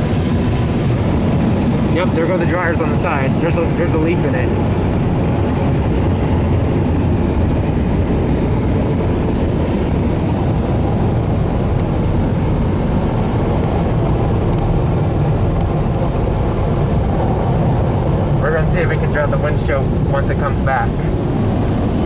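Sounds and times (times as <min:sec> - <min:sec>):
car wash dryer blowers: 0:00.0 - 0:22.0.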